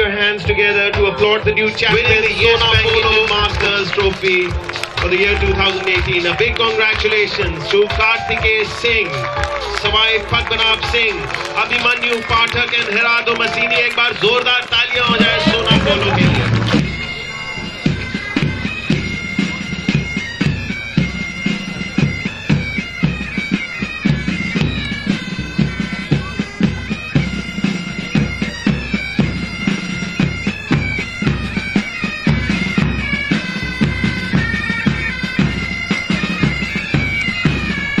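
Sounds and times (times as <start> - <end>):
bagpipes playing a tune: 0.0 - 38.0
steady drumbeat: 0.0 - 38.0.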